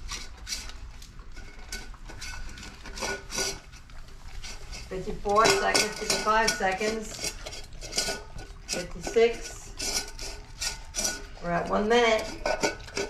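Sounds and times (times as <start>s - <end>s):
dog eating from metal bowl: 0.0s - 13.0s
metal bowl clinking and rattling: 0.0s - 13.0s.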